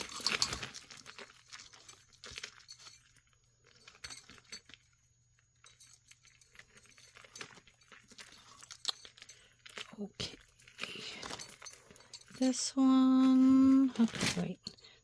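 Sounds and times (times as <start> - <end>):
jewelry jangling and clinking: 0.0 - 15.0
rustling: 0.0 - 15.0.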